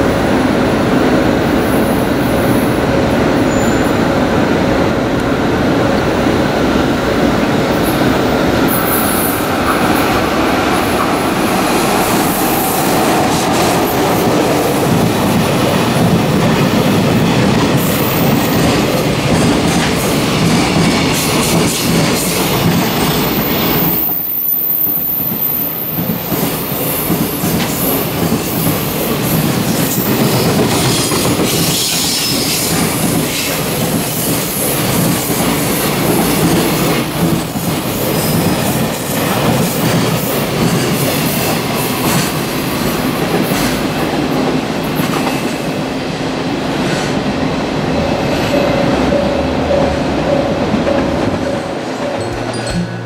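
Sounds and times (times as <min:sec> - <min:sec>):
freight train passing: 0:00.0 - 0:53.0.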